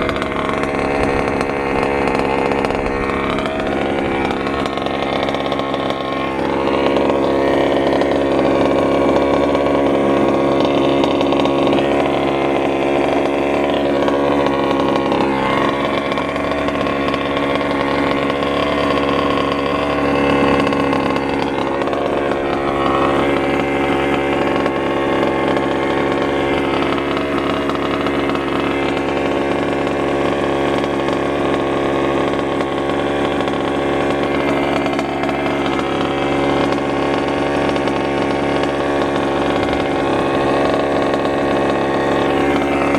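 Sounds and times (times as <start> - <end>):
small gas engine running: 0.0 - 42.9.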